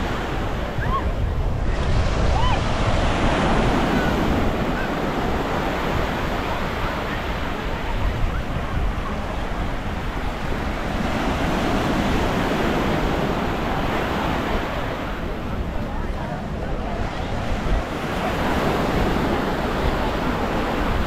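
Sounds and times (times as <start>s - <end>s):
waves washing onto beach: 0.0s - 21.0s
wind buffeting microphone: 0.0s - 21.0s.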